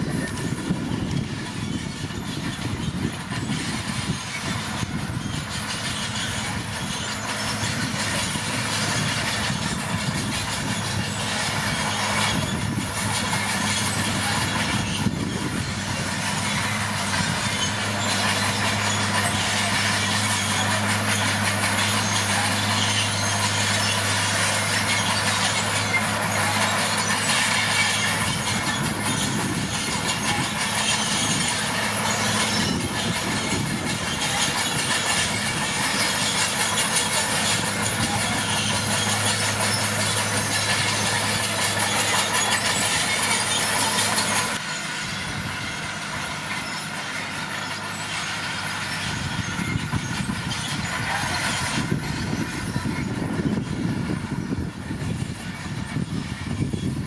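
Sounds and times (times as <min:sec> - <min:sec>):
bulldozer diesel engine rattling: 0:00.0 - 0:57.0.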